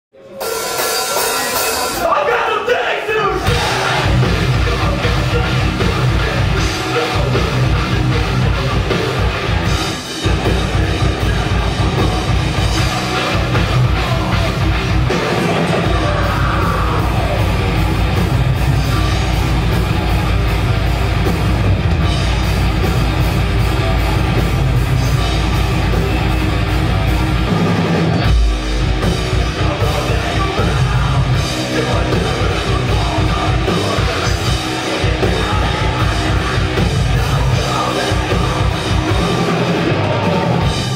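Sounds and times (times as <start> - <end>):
death metal band playing live: 0.2 - 40.9.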